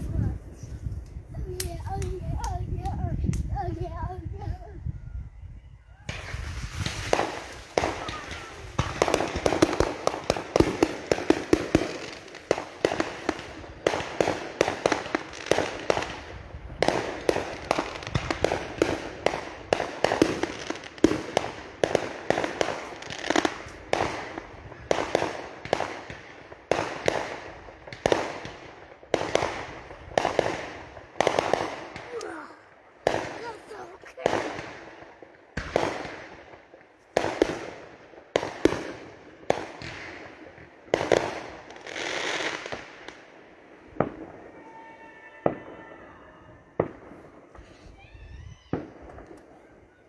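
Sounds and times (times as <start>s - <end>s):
fireworks banging: 0.0s - 4.6s, 6.1s - 46.2s, 46.8s - 50.0s.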